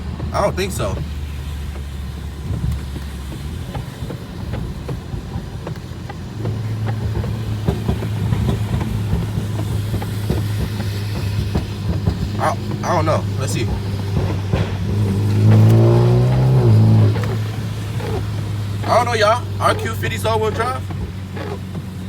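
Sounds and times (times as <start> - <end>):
car engine droning and revving: 0.0 - 22.0
tyre and road noise: 0.0 - 22.0.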